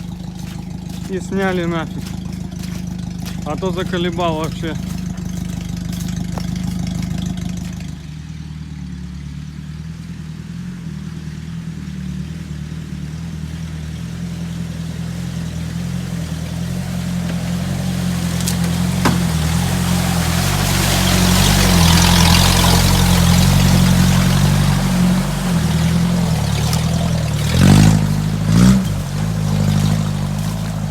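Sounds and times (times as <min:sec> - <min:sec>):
engine revving blips: 0:00.0 - 0:09.1, 0:14.2 - 0:30.9
off-road truck engine without muffler: 0:00.0 - 0:30.9
wheels rushing noise: 0:00.0 - 0:30.9.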